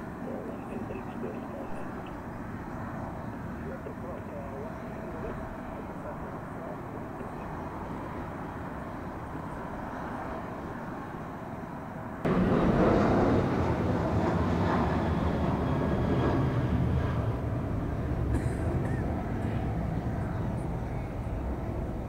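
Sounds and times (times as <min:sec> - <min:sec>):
distant jet engines rumbling: 0:00.0 - 0:22.0.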